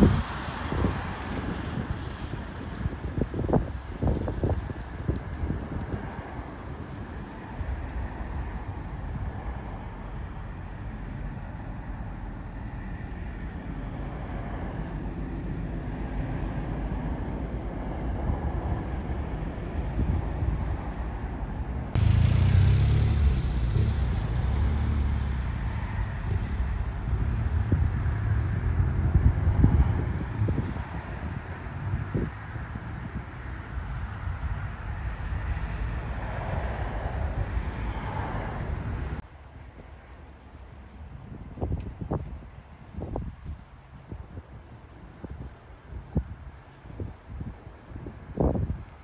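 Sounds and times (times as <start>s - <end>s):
wind on microphone: 0.0s - 10.0s, 13.9s - 39.2s, 40.8s - 49.0s
low rumble of engines: 0.0s - 49.0s.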